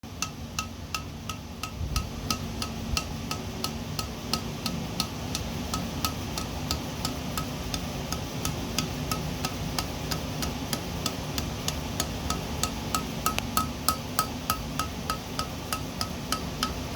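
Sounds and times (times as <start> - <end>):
steady low hum: 0.0 - 16.9
hammer striking steel on anvil: 0.2 - 16.9.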